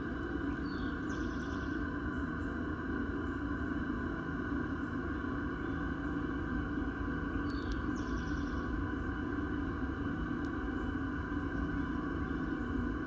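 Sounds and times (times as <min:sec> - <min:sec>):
steady churning hum and rumble: 0:00.0 - 0:13.0.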